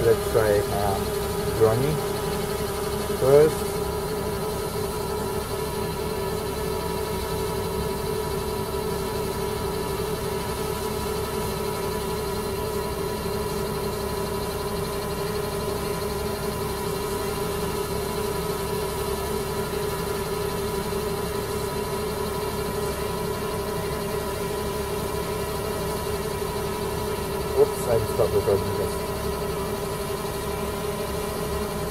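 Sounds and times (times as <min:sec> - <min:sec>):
drone propeller hum: 0:00.0 - 0:31.9.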